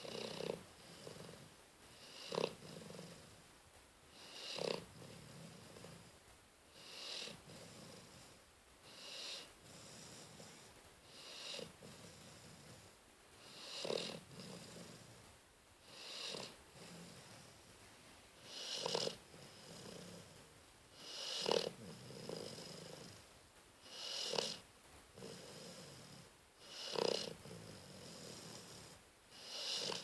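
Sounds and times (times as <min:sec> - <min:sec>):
dog snoring: 0:00.0 - 0:03.5, 0:04.1 - 0:17.8, 0:18.4 - 0:30.0.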